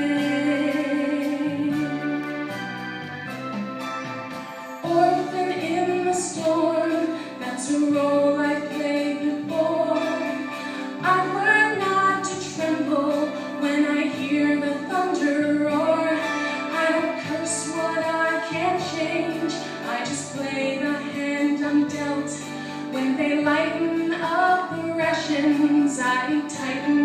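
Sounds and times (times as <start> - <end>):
woman singing a ballad: 0.0 - 2.5, 4.8 - 27.0
instrumental accompaniment: 0.0 - 27.0.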